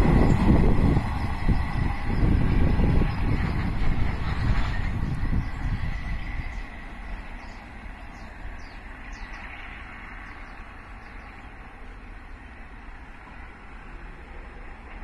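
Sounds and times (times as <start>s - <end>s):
diesel freight train rumbling: 0.0s - 15.0s.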